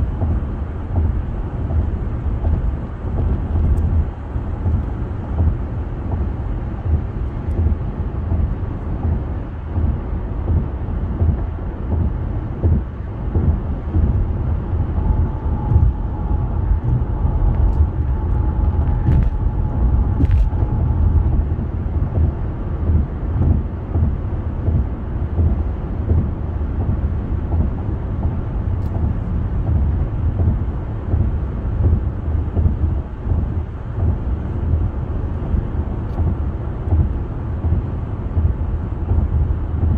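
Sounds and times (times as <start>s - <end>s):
car road noise rumble: 0.0s - 39.9s
faint steady whine: 0.0s - 39.9s.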